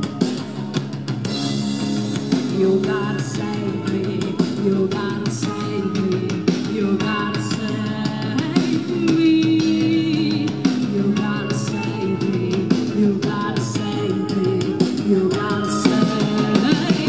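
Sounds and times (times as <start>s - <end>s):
drum kit: 0.0s - 17.0s
electric guitars: 0.0s - 17.0s
person singing: 0.0s - 17.0s.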